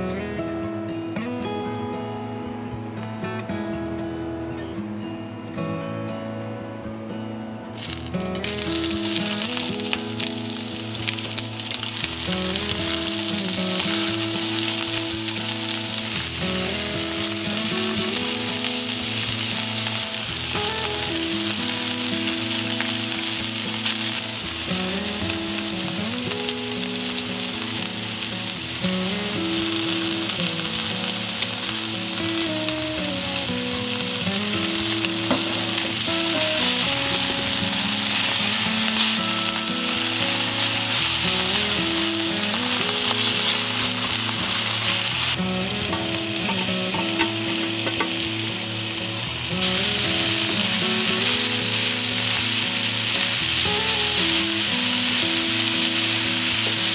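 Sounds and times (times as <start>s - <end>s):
soft background music: 0.0s - 56.9s
bacon sizzling in a skillet: 7.8s - 56.9s.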